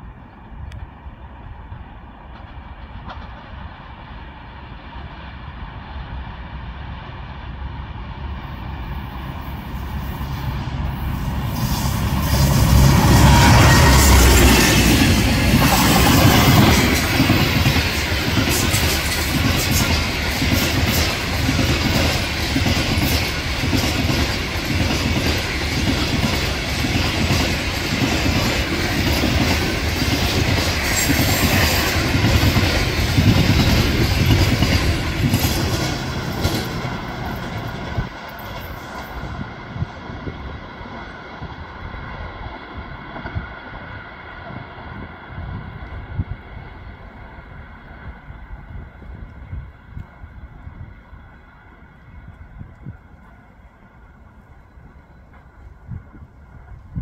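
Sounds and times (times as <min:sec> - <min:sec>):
train passing at speed: 0:00.0 - 0:57.0.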